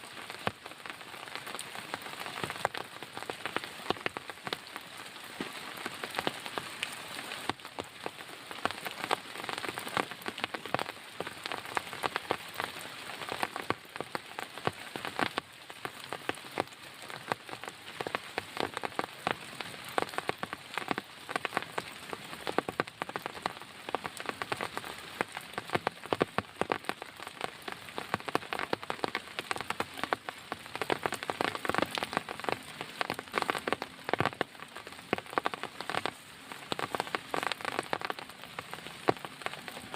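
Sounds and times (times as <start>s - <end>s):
raindrops striking close by: 0.0s - 39.9s.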